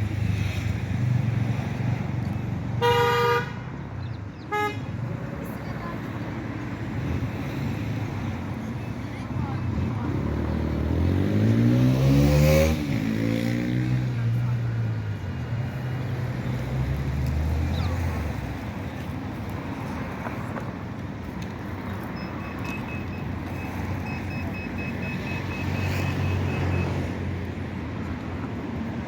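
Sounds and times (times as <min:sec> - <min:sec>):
traffic noise: 0:00.0 - 0:29.0
vehicle engines passing: 0:00.0 - 0:29.0.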